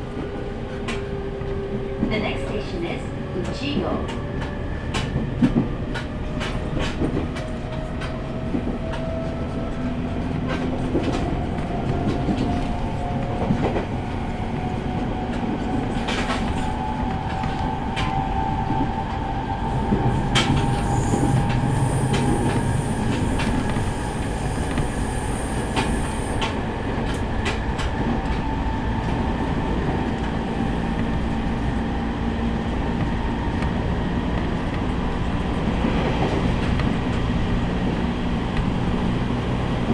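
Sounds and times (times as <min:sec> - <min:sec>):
train rolling noise: 0:00.0 - 0:39.9.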